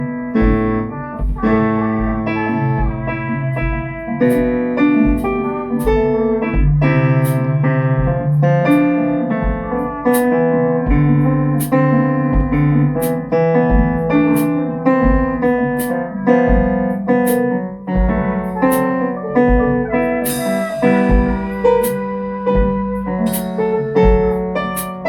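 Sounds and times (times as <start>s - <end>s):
drum kit beat: 0.0s - 25.0s
electric piano chords: 0.0s - 25.0s.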